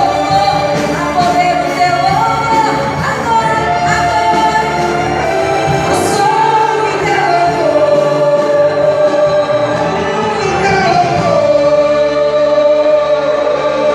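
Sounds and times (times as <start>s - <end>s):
orchestra and voices singing hymn: 0.0s - 13.9s.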